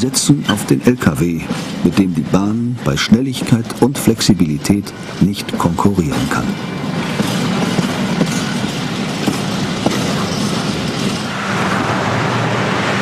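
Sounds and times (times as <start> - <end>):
wheels clacking over rail joints: 0.0 - 11.9
freight train rumbling past: 0.0 - 13.0
motorway traffic hiss: 0.0 - 13.0.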